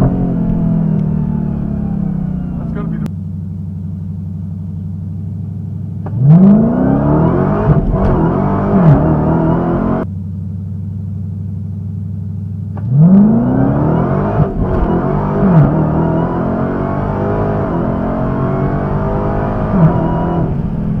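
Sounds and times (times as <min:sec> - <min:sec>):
car engine revving: 0:00.0 - 0:10.2, 0:12.6 - 0:21.0.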